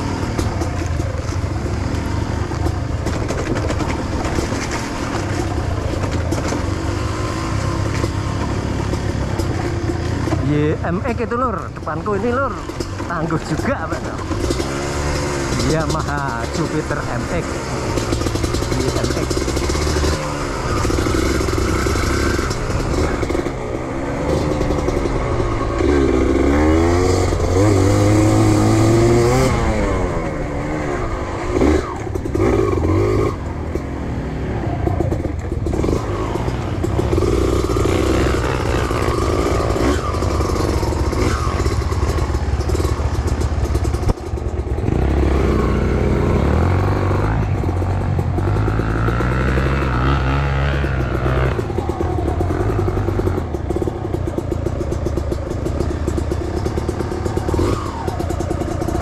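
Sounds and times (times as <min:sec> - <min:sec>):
small motorcycle engine revving: 0:00.0 - 0:59.0.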